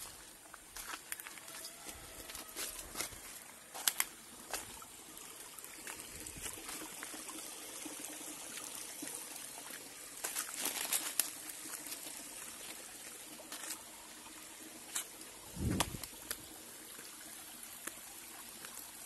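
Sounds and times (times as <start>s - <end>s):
stream trickling over rock: 0.0s - 19.0s.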